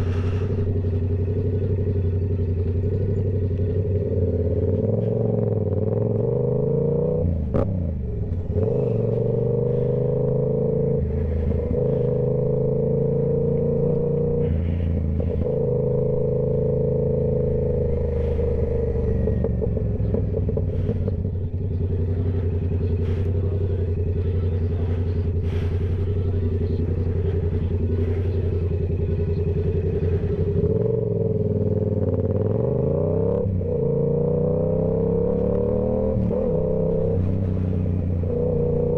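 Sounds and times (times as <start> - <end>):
motorcycle engine at steady revs: 0.0 - 38.9.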